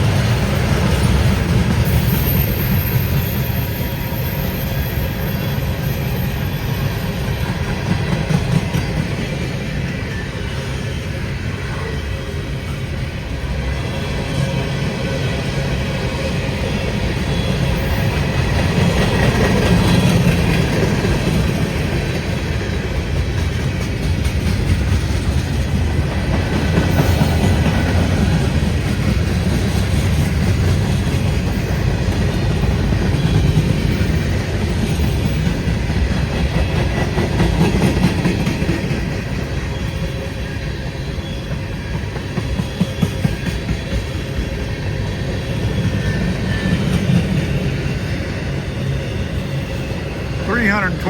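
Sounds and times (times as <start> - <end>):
steel train wheels rumbling on rails: 0.0 - 51.0.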